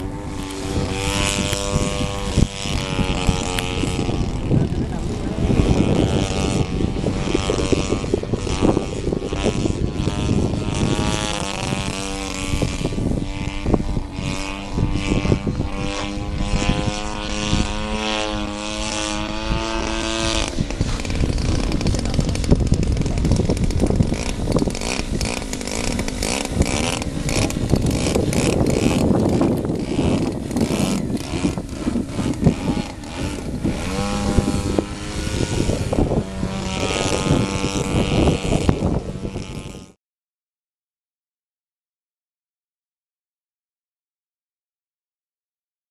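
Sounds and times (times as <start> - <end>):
model plane engine and propeller: 0.0 - 40.0.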